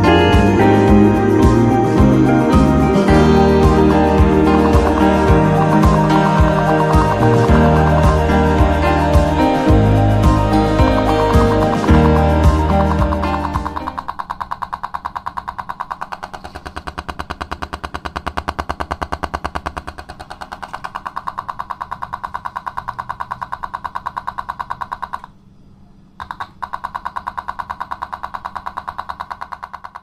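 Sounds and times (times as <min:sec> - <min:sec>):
rapid pulsing buzz from speaker: 0:00.0 - 0:25.3.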